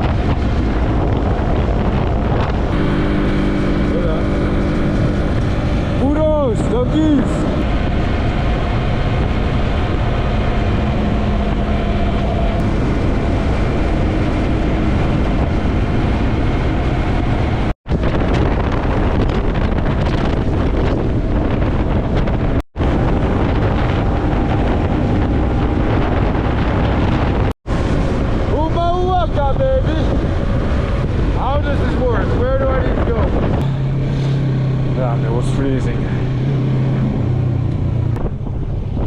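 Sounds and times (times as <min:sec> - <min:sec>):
motorcycle engine hum: 0:00.0 - 0:39.0
wind buffeting microphone: 0:00.0 - 0:39.0.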